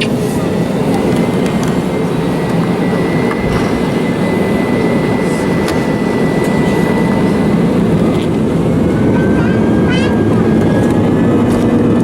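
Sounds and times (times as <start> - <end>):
high engine whine: 0.0 - 12.0
jet engine rumble: 0.0 - 12.0.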